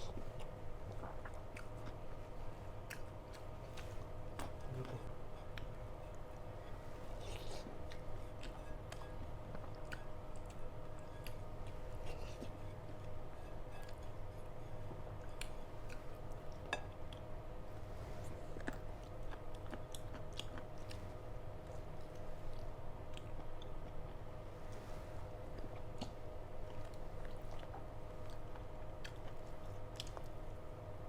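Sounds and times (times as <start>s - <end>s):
person chewing food: 0.0s - 30.9s.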